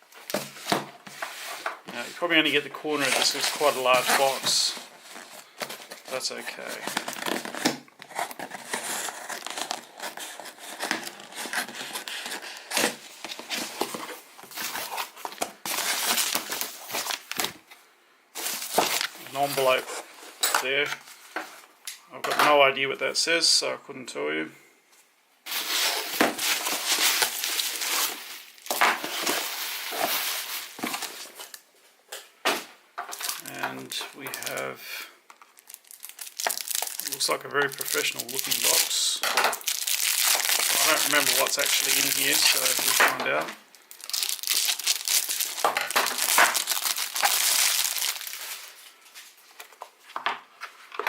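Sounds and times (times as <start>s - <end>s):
packing material crinkling: 0.1s - 17.7s, 18.4s - 21.3s, 25.5s - 31.7s, 33.1s - 49.8s.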